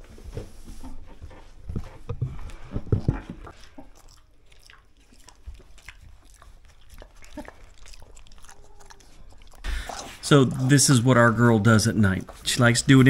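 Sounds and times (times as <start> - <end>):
pig crunching and chewing: 0.9 - 13.0.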